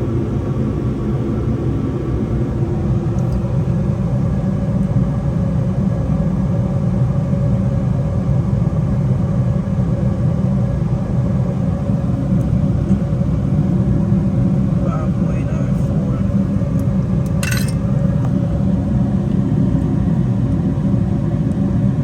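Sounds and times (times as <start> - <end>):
gas furnace low rumble: 0.0 - 22.0.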